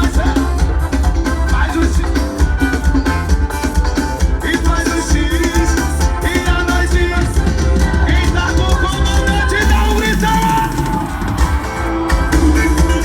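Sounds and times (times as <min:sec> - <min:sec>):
loud music with heavy bass beat: 0:00.0 - 0:13.0.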